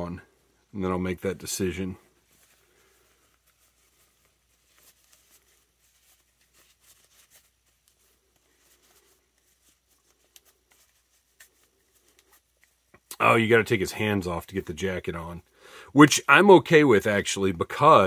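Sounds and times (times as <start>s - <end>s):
faint cloth rustles: 0.0s - 15.5s.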